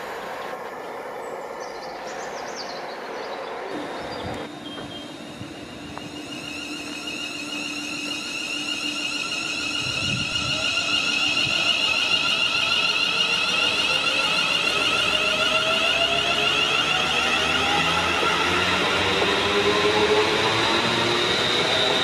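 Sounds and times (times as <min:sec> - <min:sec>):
train high-pitched ringing whine: 0:00.0 - 0:22.0
low rising tone: 0:03.6 - 0:22.0.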